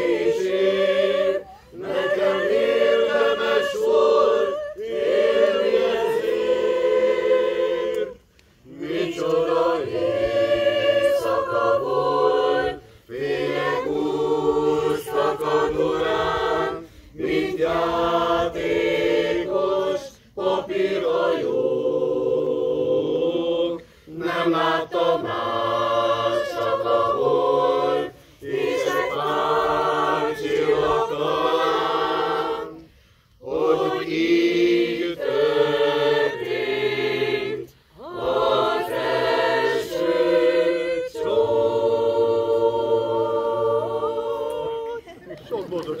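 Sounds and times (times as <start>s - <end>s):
mixed choir singing unaccompanied: 0.0s - 46.0s.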